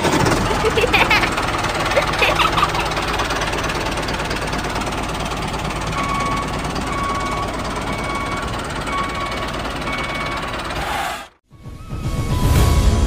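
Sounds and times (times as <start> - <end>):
diesel tractor engine clattering: 0.0 - 12.4.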